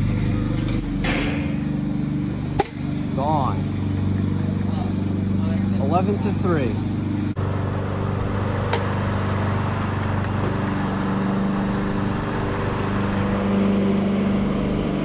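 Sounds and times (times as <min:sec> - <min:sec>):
motor running: 0:00.0 - 0:15.0.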